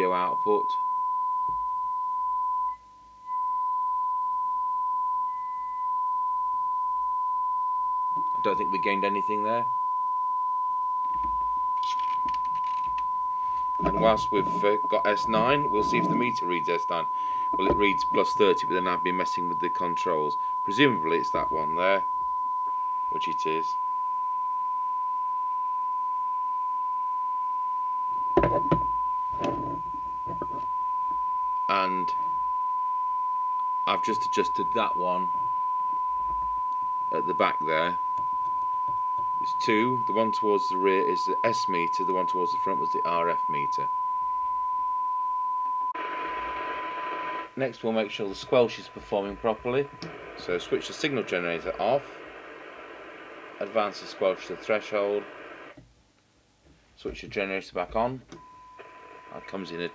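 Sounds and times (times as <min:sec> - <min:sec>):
steady radio test tone: 0:00.0 - 0:55.8, 0:57.8 - 0:59.9.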